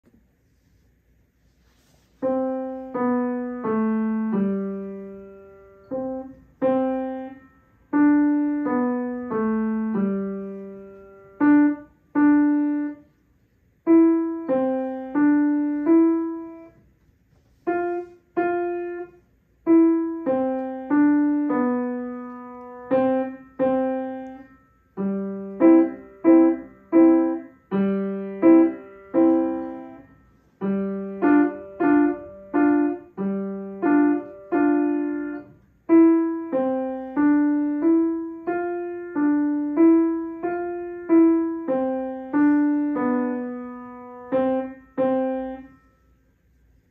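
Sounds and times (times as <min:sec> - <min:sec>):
grand piano melody: 0:02.2 - 0:46.2.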